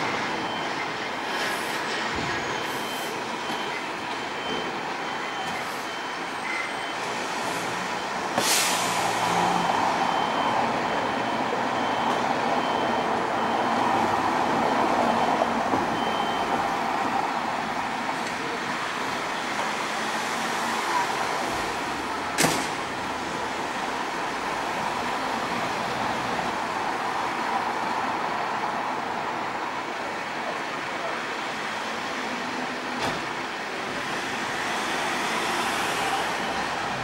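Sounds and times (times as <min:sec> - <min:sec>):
traffic hum: 0:00.0 - 0:37.0.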